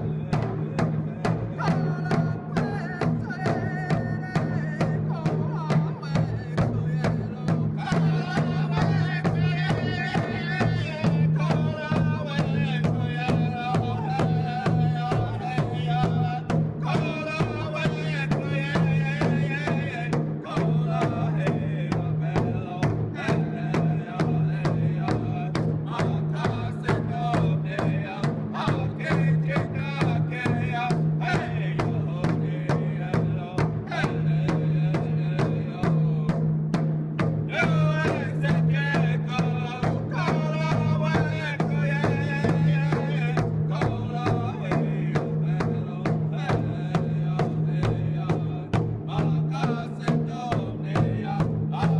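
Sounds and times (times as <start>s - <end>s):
music with steady drumbeat: 0.0s - 51.9s.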